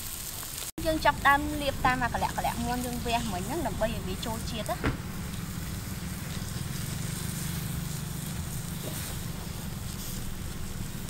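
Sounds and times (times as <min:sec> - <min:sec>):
wood fire hissing and rumbling: 0:00.0 - 0:11.0.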